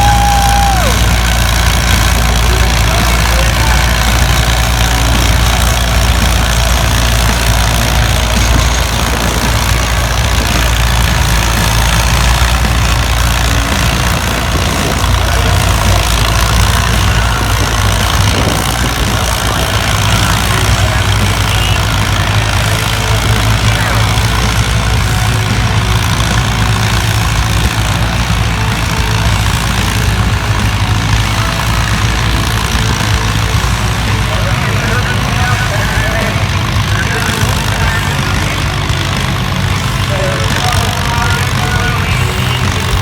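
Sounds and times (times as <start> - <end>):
tractor engine humming: 0.0 - 43.0.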